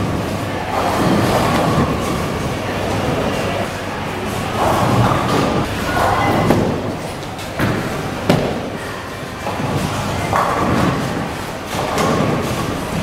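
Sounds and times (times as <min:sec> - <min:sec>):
bowling balls rolling: 0:00.0 - 0:13.0.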